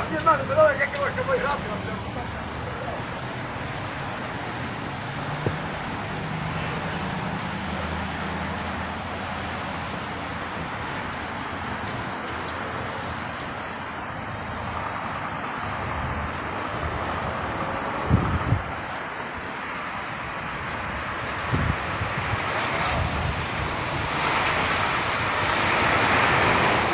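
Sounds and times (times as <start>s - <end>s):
cars passing on wet road: 0.0s - 26.9s.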